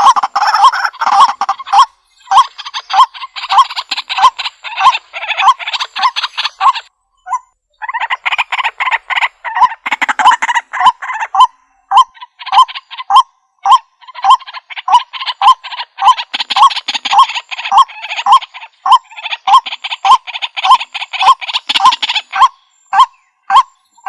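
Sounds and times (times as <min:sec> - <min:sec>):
waterhen calling harsh croaking notes: 0:00.0 - 0:23.8.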